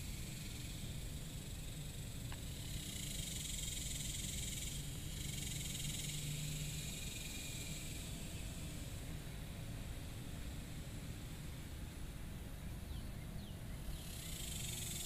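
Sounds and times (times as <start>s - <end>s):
high insect drone: 0.0s - 11.9s, 13.8s - 15.0s.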